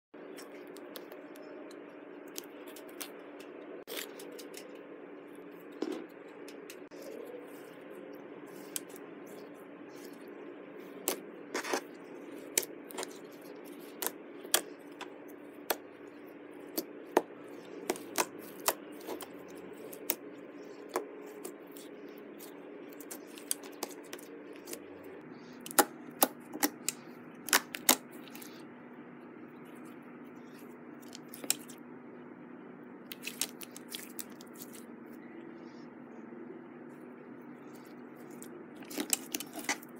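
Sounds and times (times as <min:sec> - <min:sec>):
low steady hum: 0:00.2 - 0:39.9.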